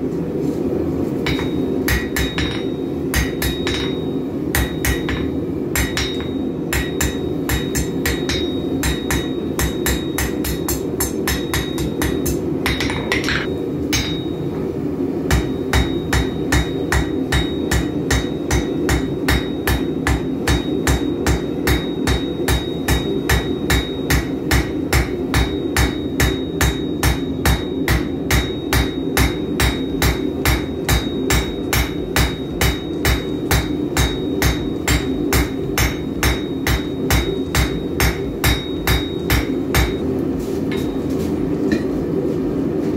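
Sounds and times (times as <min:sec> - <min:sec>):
steady hum: 0:00.0 - 0:42.9
hammer striking steel on anvil: 0:01.2 - 0:14.6, 0:15.3 - 0:42.0.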